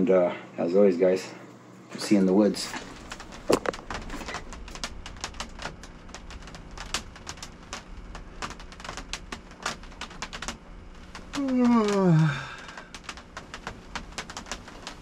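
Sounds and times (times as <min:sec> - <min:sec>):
rain and sleet ticking on roof: 0:02.0 - 0:15.0
low steady rumble: 0:02.2 - 0:15.0.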